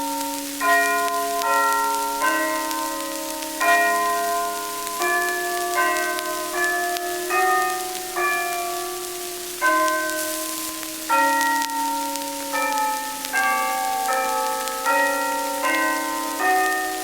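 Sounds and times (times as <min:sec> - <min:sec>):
bells playing a slow melody: 0:00.0 - 0:17.0
record surface hiss: 0:00.0 - 0:17.0.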